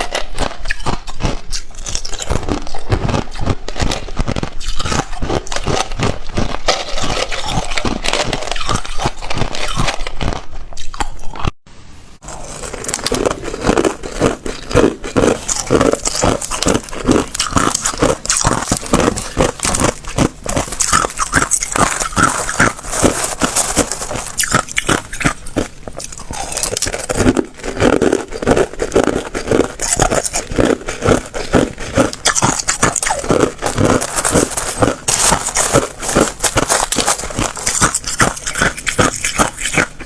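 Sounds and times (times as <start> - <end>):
ice cubes being chewed: 0.0 - 11.6, 12.2 - 40.0.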